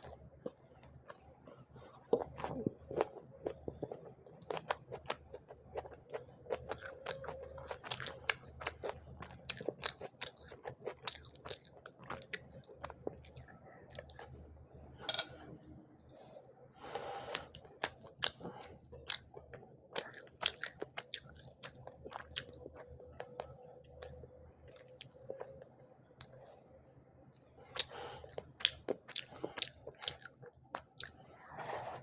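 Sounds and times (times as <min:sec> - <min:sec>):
chewing and biting food: 0:00.0 - 0:14.5, 0:17.3 - 0:26.4, 0:27.7 - 0:31.2.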